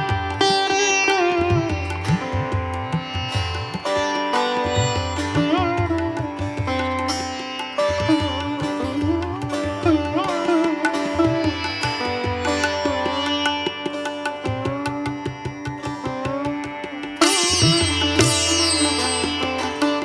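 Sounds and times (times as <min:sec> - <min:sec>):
plucked string melody: 0:00.0 - 0:20.0.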